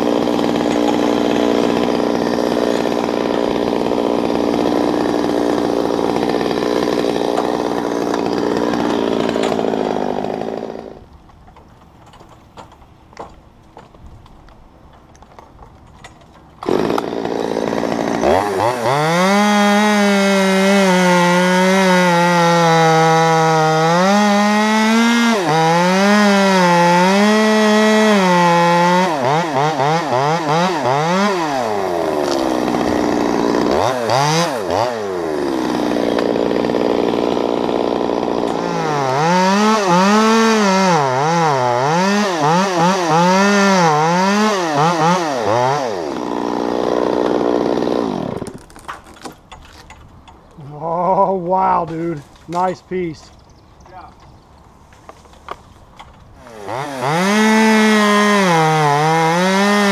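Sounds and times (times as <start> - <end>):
chainsaw cutting wood: 0.0 - 50.4, 51.1 - 59.9.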